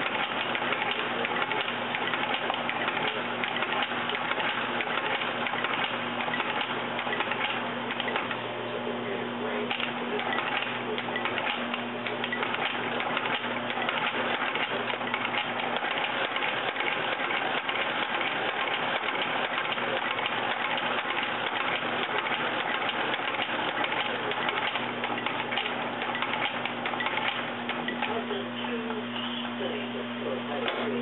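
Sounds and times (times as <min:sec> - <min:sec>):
stitching machine needle clatter: 0:00.0 - 0:08.4, 0:09.7 - 0:28.2.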